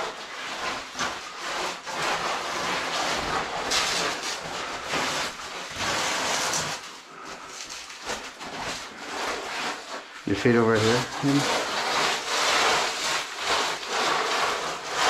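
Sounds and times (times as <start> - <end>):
oversuits scraping against rock: 0.0 - 15.0.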